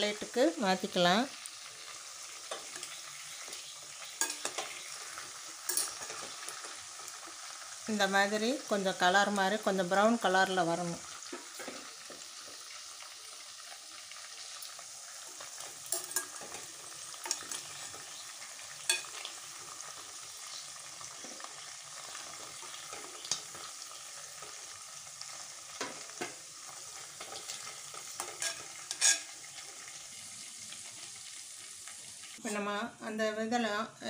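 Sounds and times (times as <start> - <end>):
chicken sizzling in hot oil: 0.0 - 33.8.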